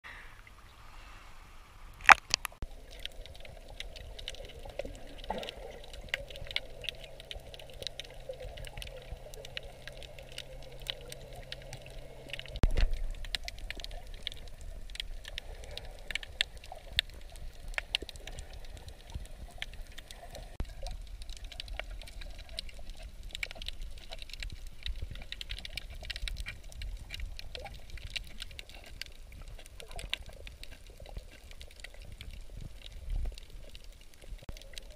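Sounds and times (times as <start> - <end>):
underwater crackle of clicks: 1.9 - 34.9.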